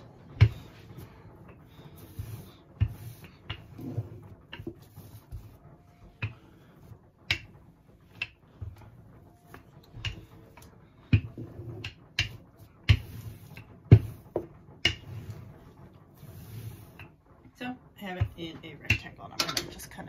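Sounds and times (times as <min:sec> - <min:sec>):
rolling pin rolling dough: 0:00.0 - 0:20.0
rolling pin knocking: 0:00.1 - 0:06.6, 0:07.2 - 0:16.0, 0:18.1 - 0:20.0.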